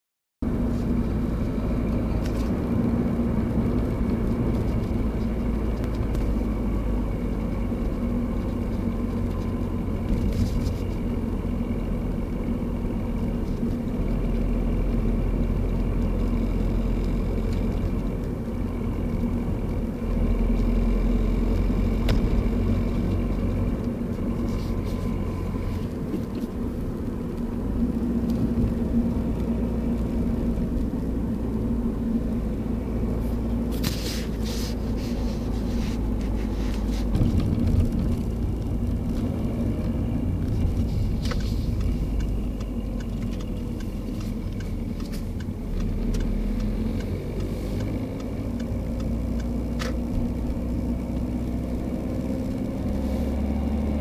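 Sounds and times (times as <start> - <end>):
car engine and road rumble: 0.4 - 54.0.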